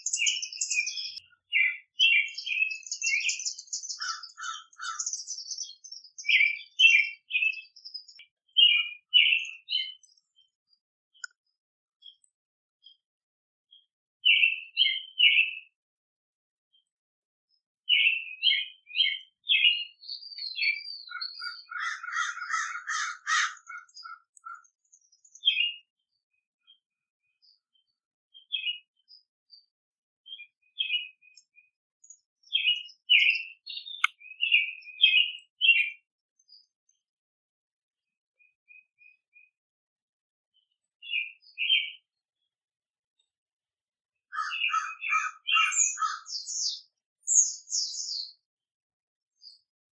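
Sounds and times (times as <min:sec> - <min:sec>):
songbirds chirping: 0:00.0 - 0:37.2, 0:37.9 - 0:39.7, 0:40.5 - 0:49.8.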